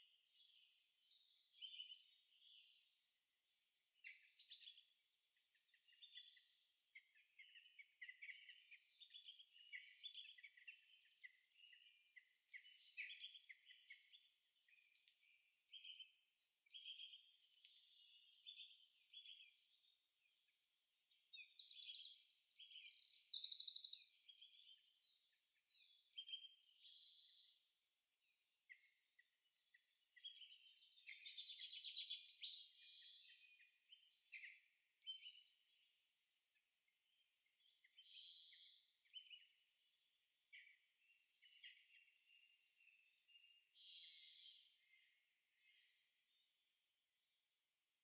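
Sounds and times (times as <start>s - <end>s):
songbird chorus: 0.0s - 48.0s.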